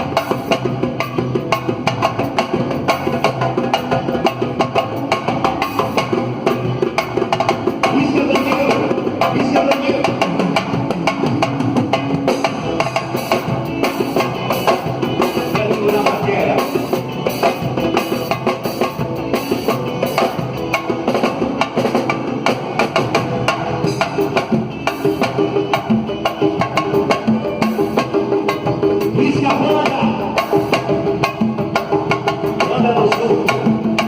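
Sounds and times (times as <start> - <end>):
samba drums: 0.0 - 34.0.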